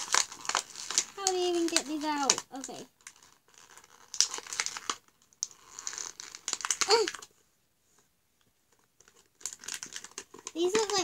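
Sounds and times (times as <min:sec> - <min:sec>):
plastic packaging crinkling: 0:00.0 - 0:07.3, 0:08.7 - 0:11.0.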